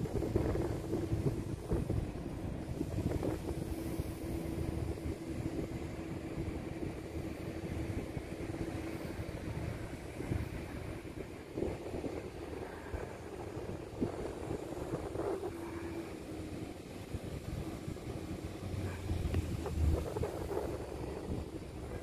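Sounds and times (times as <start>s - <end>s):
low engine hum: 0.0s - 22.0s
wind rumbling on microphone: 0.0s - 22.0s.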